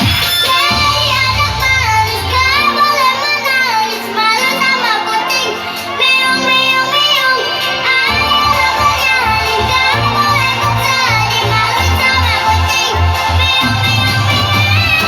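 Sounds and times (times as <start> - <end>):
child singing: 0.0 - 15.0
electronic backing track: 0.0 - 15.0.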